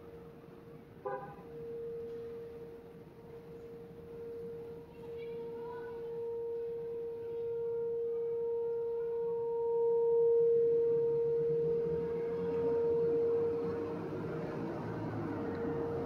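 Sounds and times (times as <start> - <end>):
siren steady alert tone: 0.0 - 16.0.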